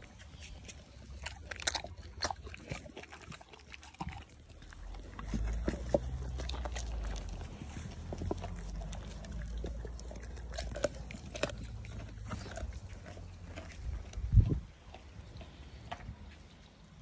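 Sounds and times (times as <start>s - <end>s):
dog crunching bone: 0.0s - 16.5s.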